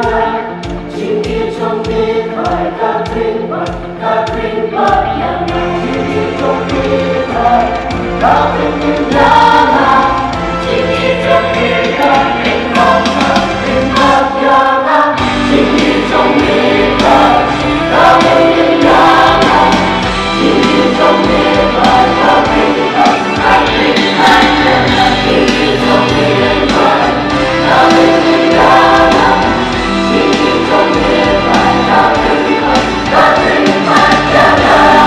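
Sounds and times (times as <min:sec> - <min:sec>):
mixed choir singing: 0:00.0 - 0:35.0.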